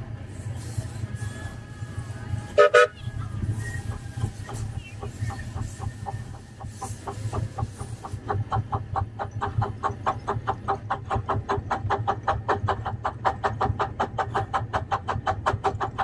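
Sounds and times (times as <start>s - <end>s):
steam locomotive chuffing: 0.0s - 16.0s
wheels rumbling on rail: 0.0s - 16.0s.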